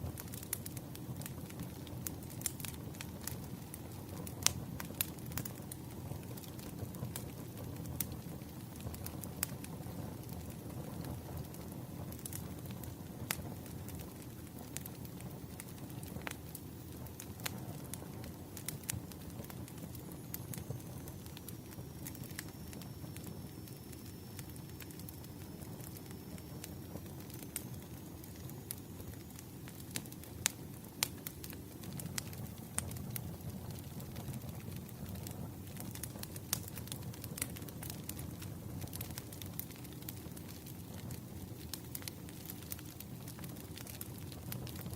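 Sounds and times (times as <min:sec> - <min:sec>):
burning wood crackling: 0:00.0 - 0:44.9
low rumble of flames: 0:00.0 - 0:44.9.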